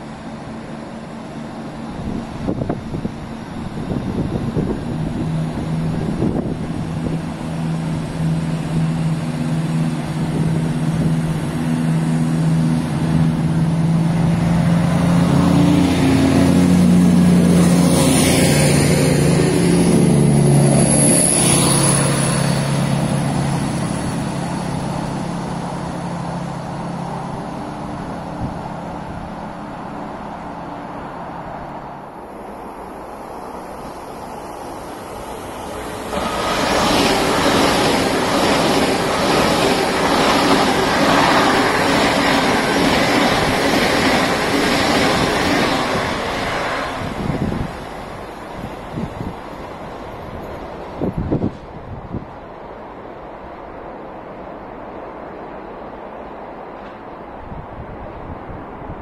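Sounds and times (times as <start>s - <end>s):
rushing of passing train: 0.0s - 59.0s
train diesel engines humming: 0.0s - 59.0s.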